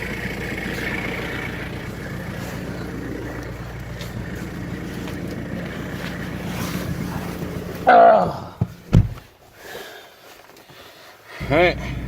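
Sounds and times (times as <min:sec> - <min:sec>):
diesel car engine idling: 0:00.0 - 0:09.3, 0:11.4 - 0:12.0.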